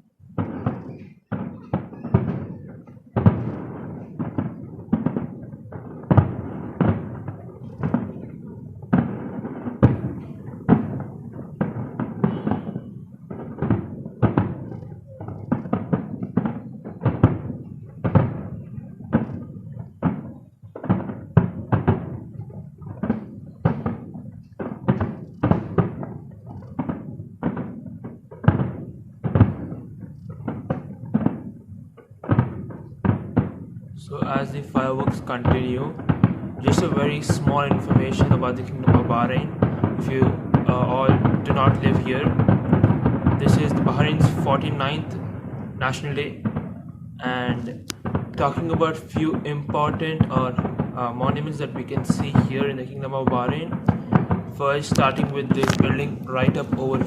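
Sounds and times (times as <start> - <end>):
fireworks booming: 0.0 - 57.0.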